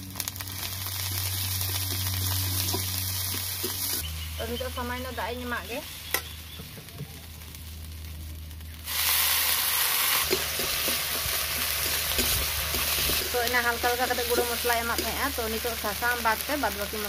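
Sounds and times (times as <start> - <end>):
paste sizzling in hot oil: 0.0 - 6.6, 8.8 - 17.0.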